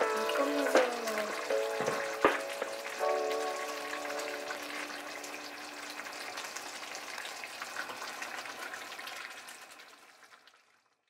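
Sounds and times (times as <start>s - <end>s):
curry sizzling in a frying pan: 0.0s - 10.8s.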